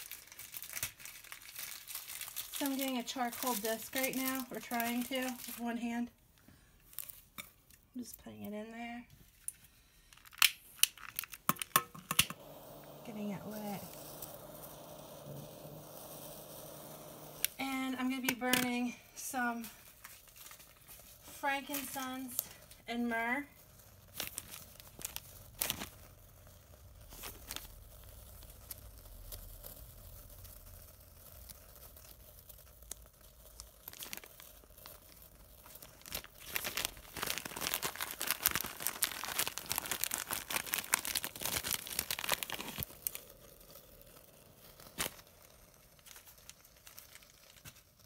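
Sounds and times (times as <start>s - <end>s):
plastic bag crinkling: 0.0s - 8.0s, 9.2s - 48.0s.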